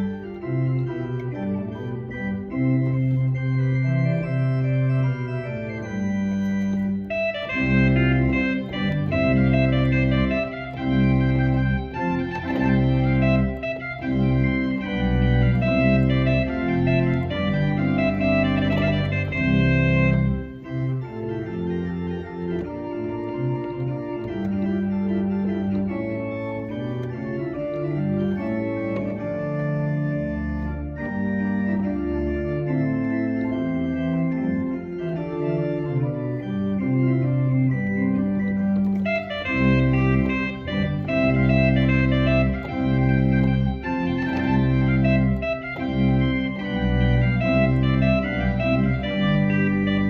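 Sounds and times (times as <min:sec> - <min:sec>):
church organ playing: 0:00.0 - 0:50.0.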